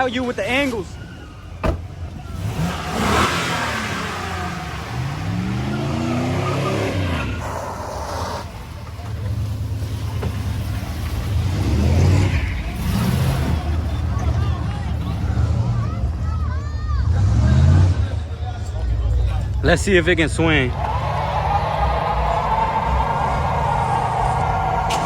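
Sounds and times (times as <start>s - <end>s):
truck engine revving: 0.6s - 25.0s.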